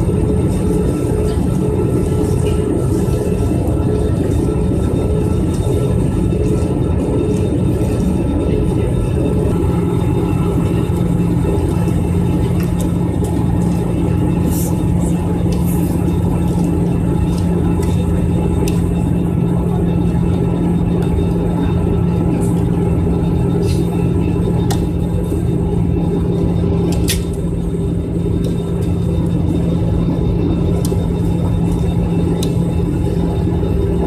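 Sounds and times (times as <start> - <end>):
jet engine cabin drone: 0.0 - 34.0.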